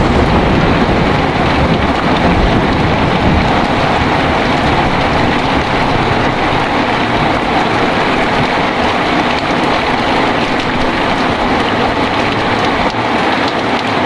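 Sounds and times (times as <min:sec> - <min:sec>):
thunder rumbling: 0:00.0 - 0:13.3
heavy rain falling: 0:00.0 - 0:14.0.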